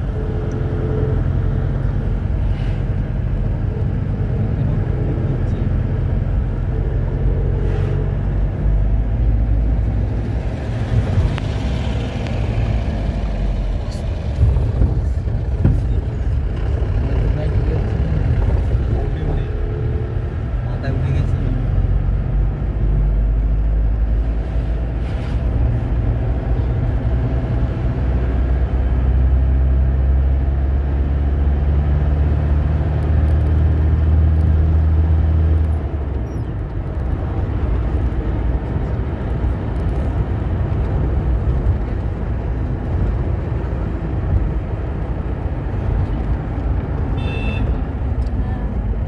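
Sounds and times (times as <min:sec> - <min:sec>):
car engine drone: 0:00.0 - 0:49.0.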